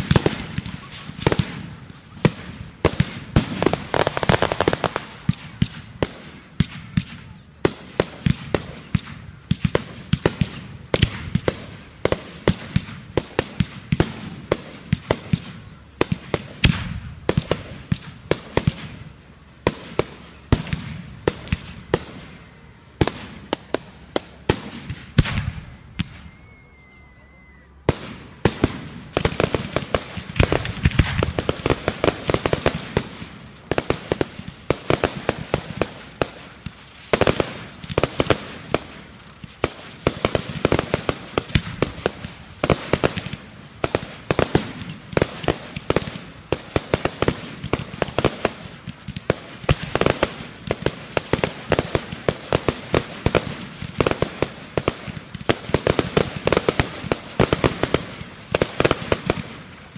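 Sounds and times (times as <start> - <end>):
fireworks bangs and pops: 0.0 - 26.3, 27.8 - 59.9
fireworks crackle: 0.0 - 59.9.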